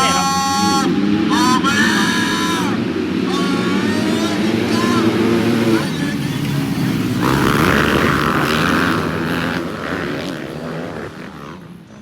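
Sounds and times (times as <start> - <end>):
motorbike engines revving: 0.0 - 12.0.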